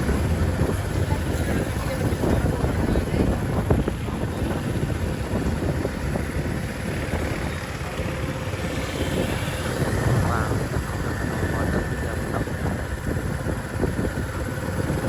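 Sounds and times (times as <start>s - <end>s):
low rumble of street traffic: 0.0s - 15.0s
wind buffeting microphone: 0.0s - 15.0s.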